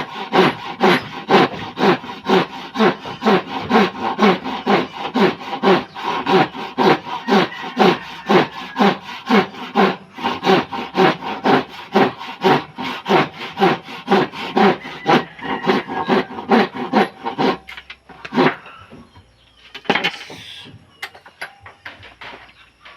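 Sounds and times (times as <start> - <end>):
hand saw cutting wood: 0.0 - 18.8.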